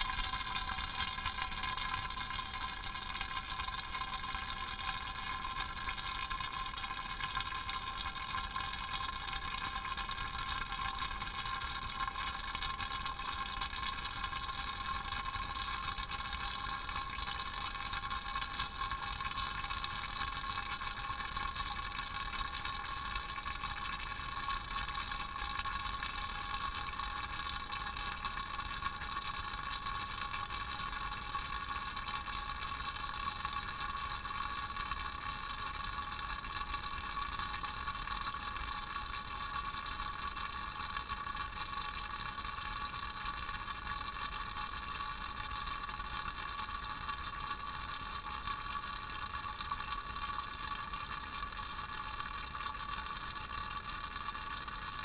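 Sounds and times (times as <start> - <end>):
oil bubbling: 0.0 - 55.0.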